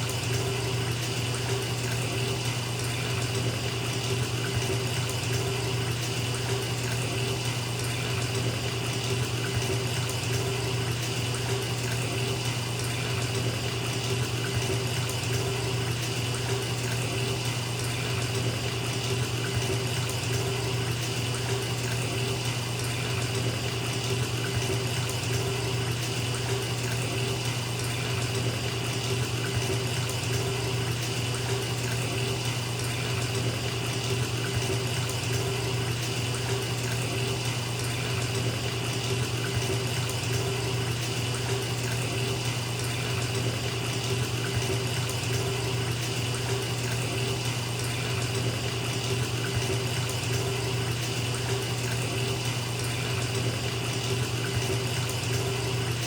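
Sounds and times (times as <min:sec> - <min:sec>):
tap water pouring into bathtub: 0:00.0 - 0:56.0.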